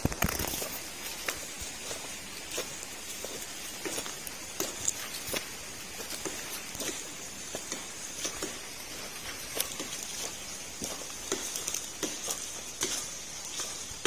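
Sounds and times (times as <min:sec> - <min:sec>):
footsteps on trail: 0:00.0 - 0:14.0
steady high hiss: 0:00.0 - 0:14.0.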